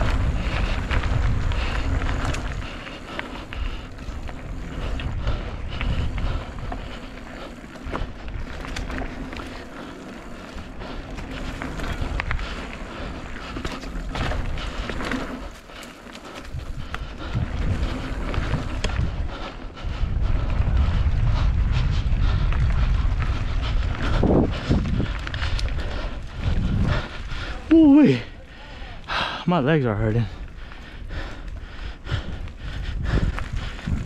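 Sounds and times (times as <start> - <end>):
bike rattling and clicking: 0.0 - 34.0
wind buffeting microphone: 0.0 - 34.0.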